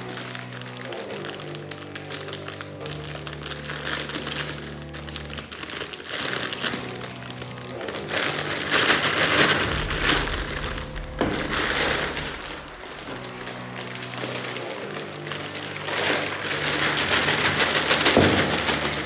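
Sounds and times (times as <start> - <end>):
background music with sustained notes: 0.0 - 19.0
plastic bag crinkling: 0.0 - 19.0.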